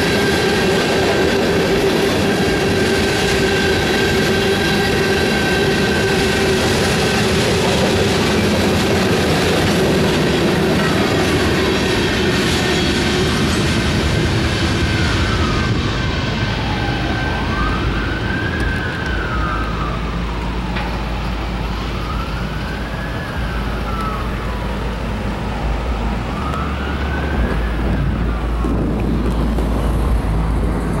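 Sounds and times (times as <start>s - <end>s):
fire truck siren wailing: 0.0s - 31.0s.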